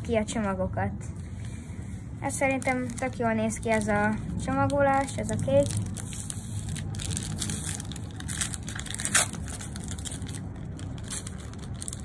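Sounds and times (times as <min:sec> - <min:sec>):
plastic wrapper crinkling: 0:02.3 - 0:12.0.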